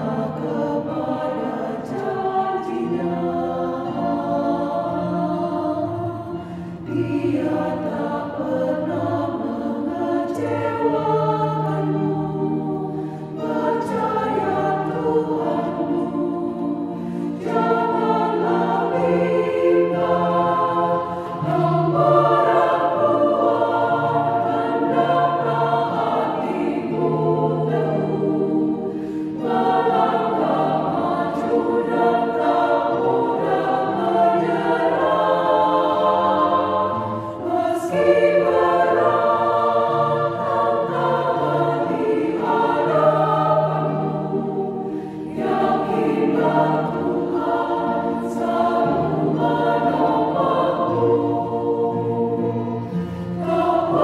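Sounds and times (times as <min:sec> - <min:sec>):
women's choir singing a hymn: 0:00.0 - 0:54.0.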